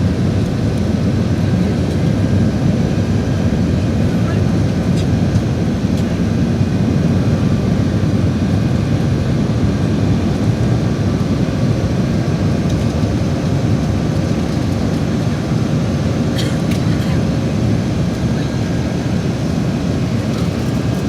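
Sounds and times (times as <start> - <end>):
jet cabin rumble: 0.0 - 21.0.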